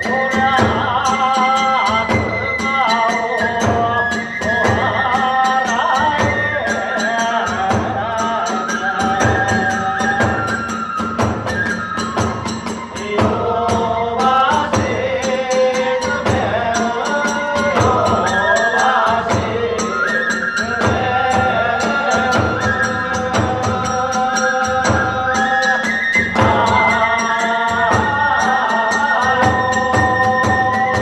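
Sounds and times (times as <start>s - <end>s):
bamboo flute melody: 0.0s - 31.0s
drum beats: 0.0s - 31.0s.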